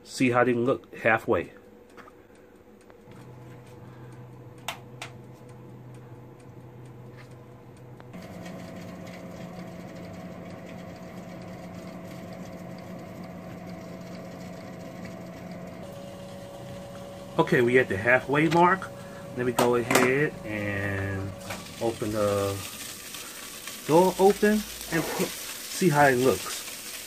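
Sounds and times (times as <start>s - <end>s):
toaster oven motor hum: 0.1s - 27.0s.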